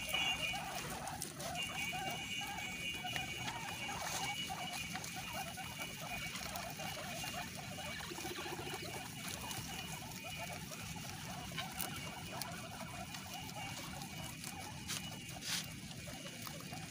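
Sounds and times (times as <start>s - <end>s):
guinea pig squeaks: 0.0s - 16.9s
guinea pigs chewing grass: 0.0s - 16.9s.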